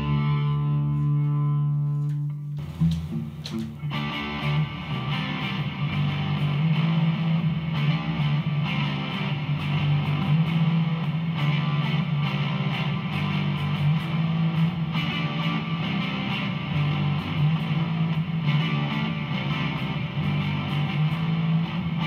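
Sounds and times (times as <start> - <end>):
overdriven electric guitar: 0.0 - 22.0.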